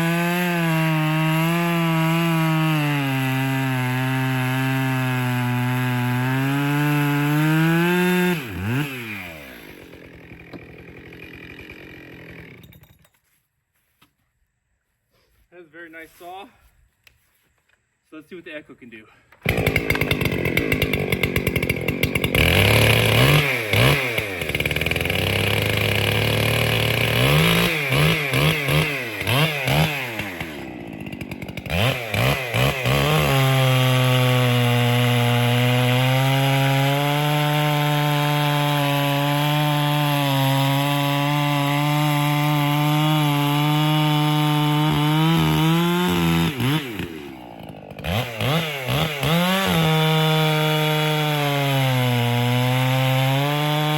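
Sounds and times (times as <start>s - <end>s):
chainsaw revving and cutting log: 0.0s - 13.0s, 19.3s - 53.9s.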